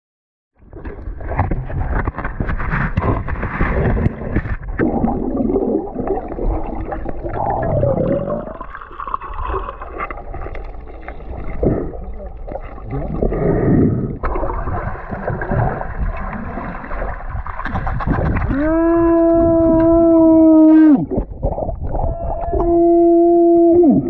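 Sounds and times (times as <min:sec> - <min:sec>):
underwater rushing and bubbling: 0:00.6 - 0:24.0.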